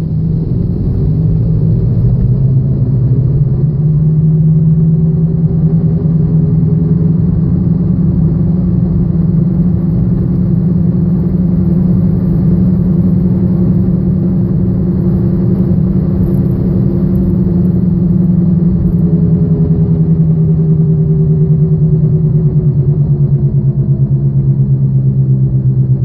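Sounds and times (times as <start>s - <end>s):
road and engine noise: 0.0s - 26.0s
wheel bearing drone: 0.0s - 26.0s.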